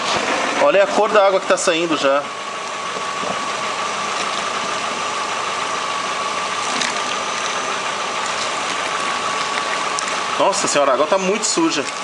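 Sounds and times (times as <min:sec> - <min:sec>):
car engine idling: 0:00.0 - 0:12.0
electric radiator fan running: 0:00.0 - 0:12.0
thin steady whine: 0:00.0 - 0:12.0
water rushing through hoses: 0:01.3 - 0:12.0.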